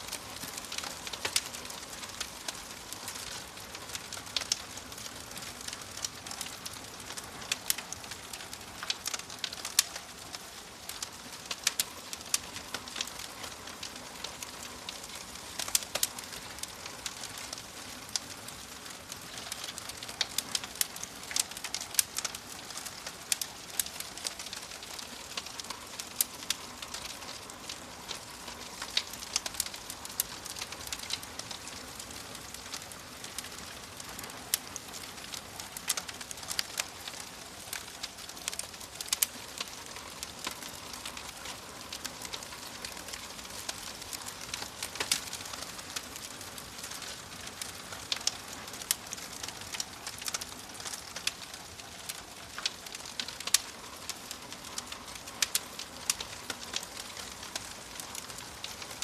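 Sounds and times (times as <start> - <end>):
soft hiss of burning: 0.0 - 59.0
wood fire popping and snapping: 0.0 - 59.0.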